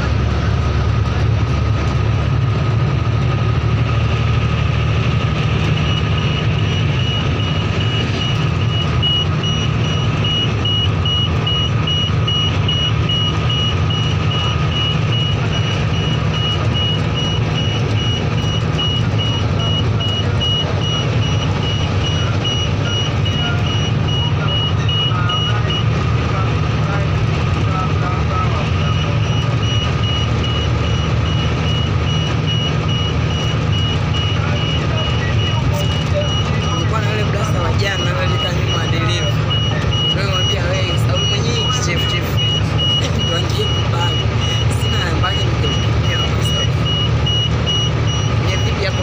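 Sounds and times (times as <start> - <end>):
bus engine and road noise: 0.0 - 49.0
high electronic warning beep: 5.6 - 26.4, 27.8 - 49.0.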